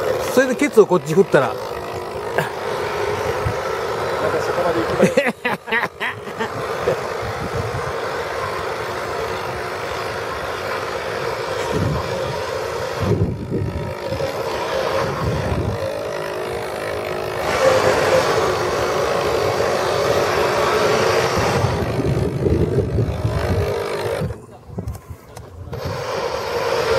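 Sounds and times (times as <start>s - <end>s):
model boat motors humming: 0.0s - 26.9s
rushing background noise: 0.0s - 26.9s.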